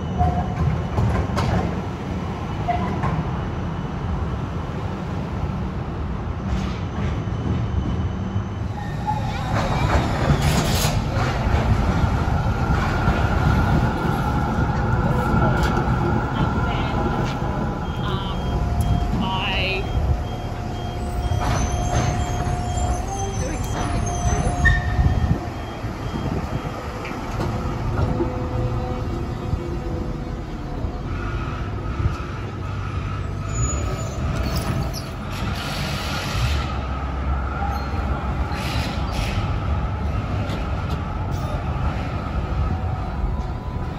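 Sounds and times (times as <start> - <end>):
tram rumbling on rails: 0.0 - 43.9.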